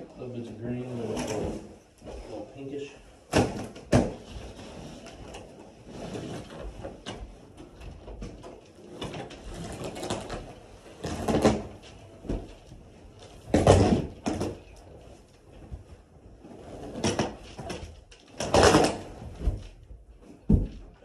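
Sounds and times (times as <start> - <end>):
carpet rustling and scraping: 0.3 - 21.0.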